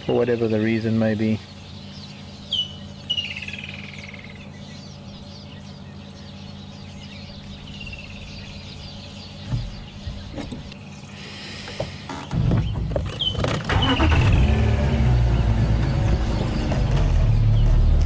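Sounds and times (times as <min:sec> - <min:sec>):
bird calls: 0:00.0 - 0:18.0
vehicle engine idling: 0:00.0 - 0:18.0.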